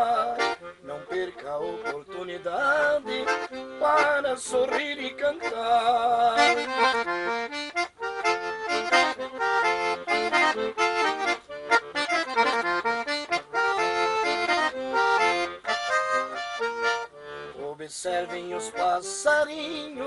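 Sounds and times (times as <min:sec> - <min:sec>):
accordion melody: 0:00.0 - 0:20.0.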